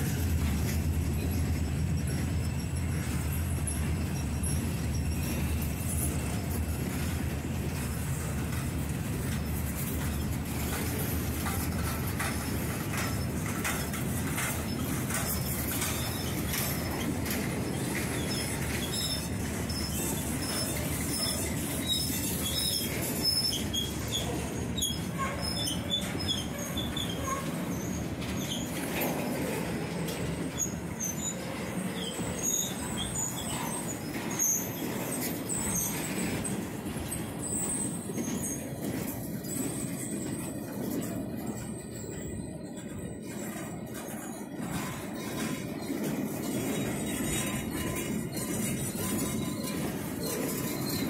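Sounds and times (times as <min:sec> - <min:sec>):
high-pitched wheel squeals: 0:00.0 - 0:51.0
steel wheels rumbling on rail: 0:00.0 - 0:51.0.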